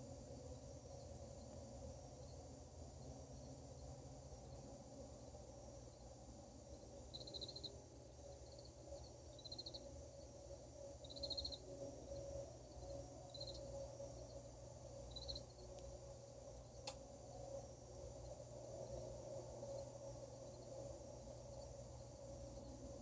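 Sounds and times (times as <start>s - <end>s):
cricket chirping: 0.0s - 23.0s
faint steady hum: 0.0s - 23.0s.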